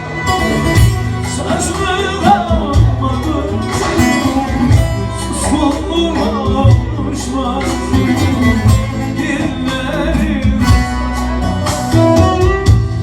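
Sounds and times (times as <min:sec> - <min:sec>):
plucked lute melody: 0:00.0 - 0:13.0
steady beat: 0:00.2 - 0:13.0.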